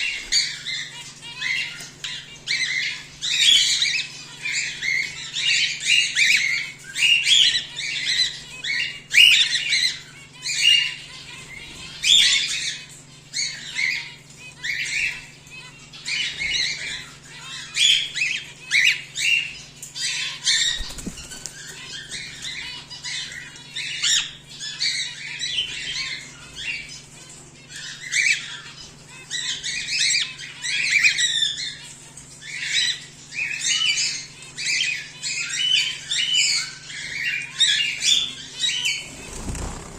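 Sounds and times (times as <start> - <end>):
cockatiels calling: 0.0 - 39.9.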